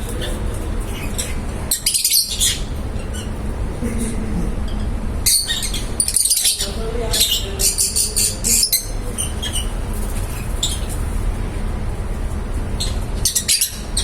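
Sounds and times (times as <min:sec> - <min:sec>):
lovebirds chirping: 0:00.0 - 0:03.6, 0:04.6 - 0:11.1, 0:12.8 - 0:14.0.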